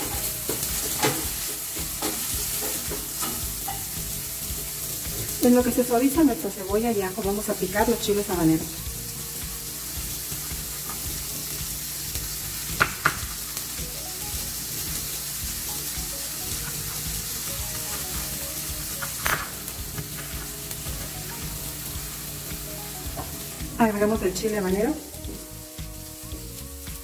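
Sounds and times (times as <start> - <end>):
onion sizzling in frying pan: 0.0 - 27.0.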